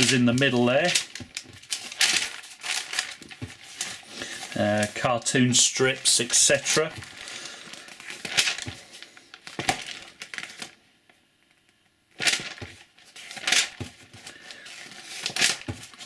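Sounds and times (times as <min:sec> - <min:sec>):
magazine pages turning: 0:00.0 - 0:10.8, 0:12.2 - 0:16.0.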